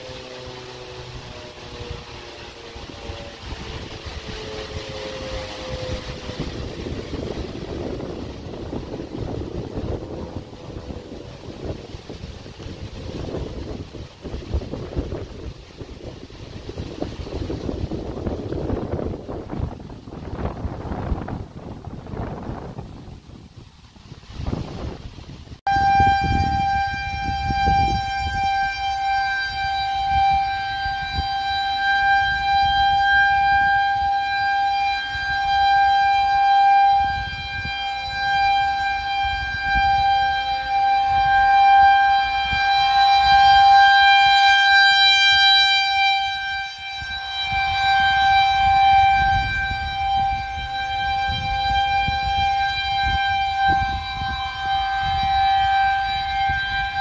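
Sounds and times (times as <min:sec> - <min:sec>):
rotating warning siren single tone: 0:00.0 - 0:23.2, 0:25.7 - 0:57.0.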